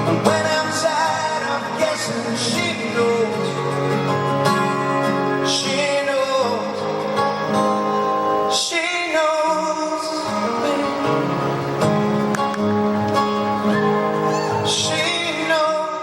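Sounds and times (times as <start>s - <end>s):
acoustic guitars playing: 0.0s - 16.0s.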